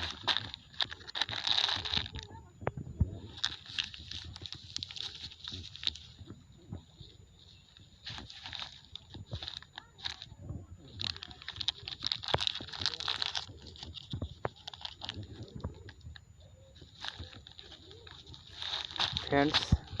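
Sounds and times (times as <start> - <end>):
plastic crinkling into a bag: 0.0 - 20.0.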